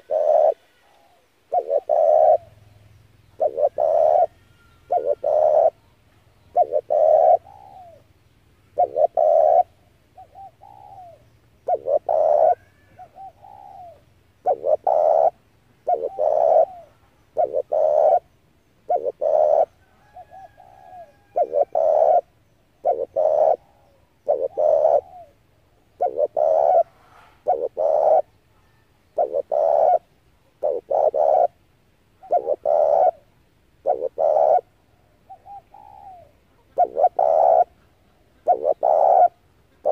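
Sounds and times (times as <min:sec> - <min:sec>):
dove cooing: 0:00.0 - 0:02.8, 0:03.4 - 0:39.9.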